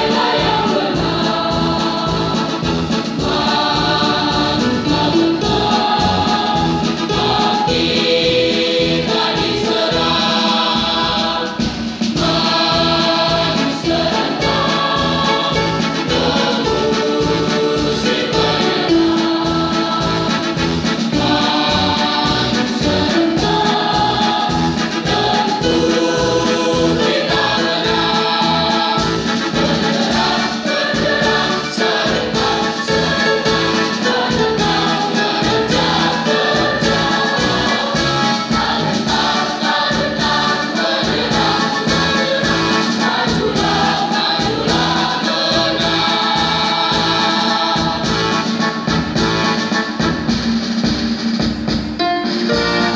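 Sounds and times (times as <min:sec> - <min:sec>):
choir singing: 0:00.0 - 0:50.4, 0:52.2 - 0:52.9.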